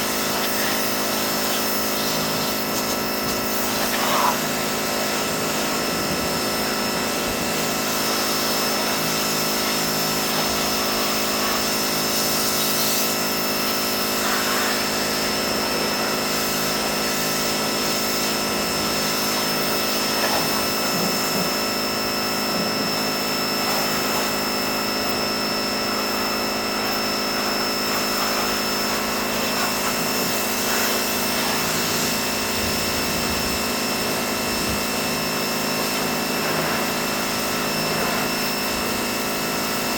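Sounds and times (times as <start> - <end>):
pressure washer running: 0.0 - 39.9.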